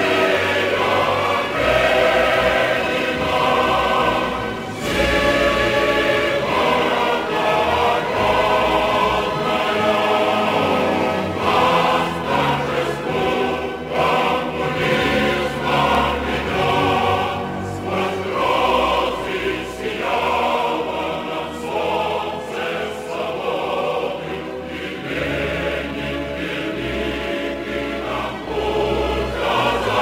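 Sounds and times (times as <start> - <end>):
choir singing: 0.0 - 30.0.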